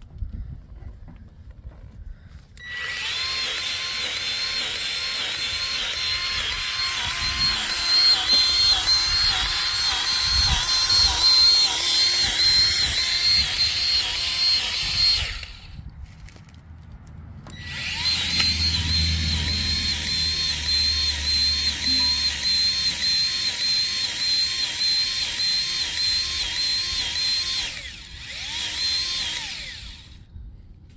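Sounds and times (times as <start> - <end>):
electric grease gun motor whining: 2.6 - 15.8, 17.5 - 30.3.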